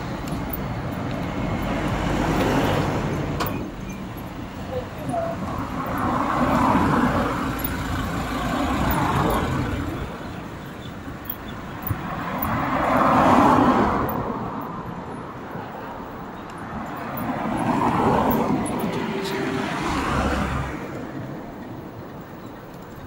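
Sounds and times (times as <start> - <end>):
passing car traffic: 0.0 - 23.0.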